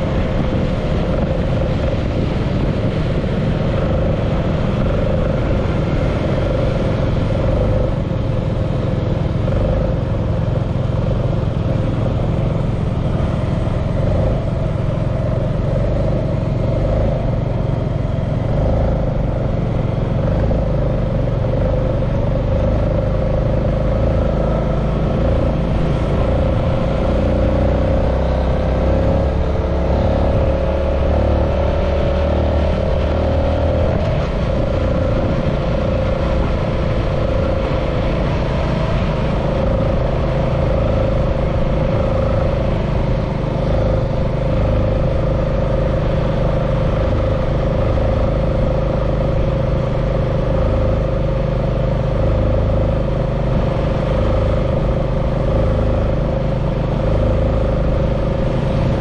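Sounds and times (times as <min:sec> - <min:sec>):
motorcycle engine running: 0:00.0 - 0:59.0
road rumble: 0:00.0 - 0:59.0
wind: 0:00.0 - 0:59.0.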